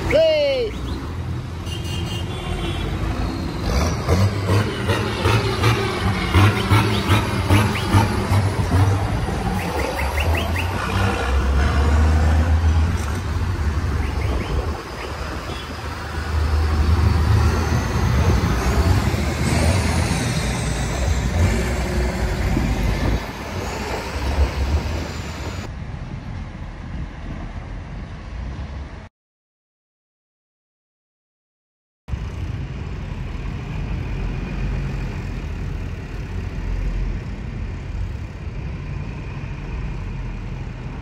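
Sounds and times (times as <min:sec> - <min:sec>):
tractor engines rumbling past: 0:00.0 - 0:29.0, 0:32.1 - 0:41.0.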